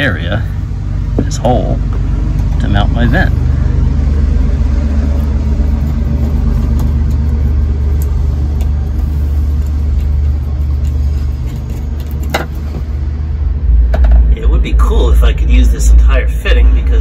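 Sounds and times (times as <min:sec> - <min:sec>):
engine rumble: 0:00.0 - 0:17.0.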